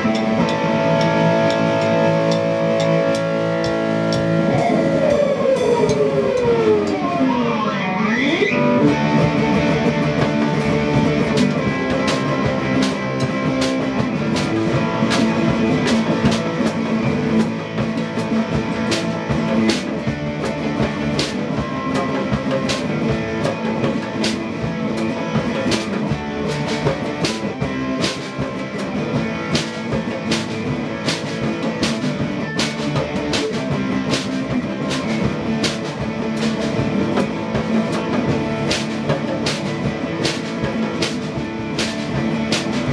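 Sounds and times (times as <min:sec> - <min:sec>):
electric guitar chords: 0:00.0 - 0:42.9
rock drum beat: 0:00.0 - 0:42.9.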